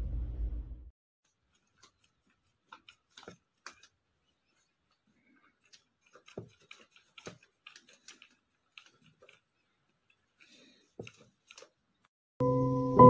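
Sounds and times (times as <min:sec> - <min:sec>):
light clicks and taps: 0:01.5 - 0:12.1.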